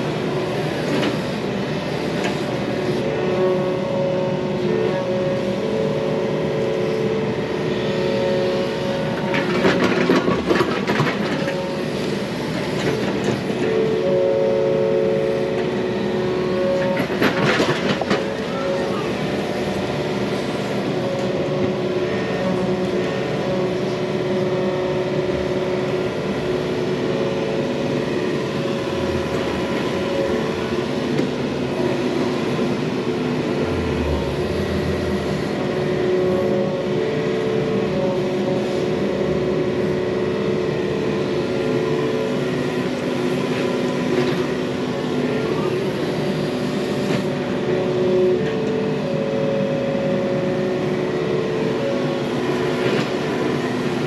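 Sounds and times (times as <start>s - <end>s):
excavator diesel engine under load: 0.0s - 54.0s
hydraulics whining: 0.1s - 49.8s.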